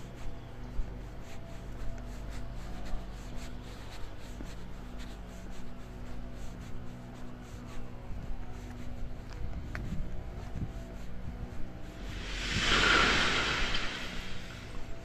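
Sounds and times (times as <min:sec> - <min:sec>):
steady low hum: 0:02.7 - 0:15.0.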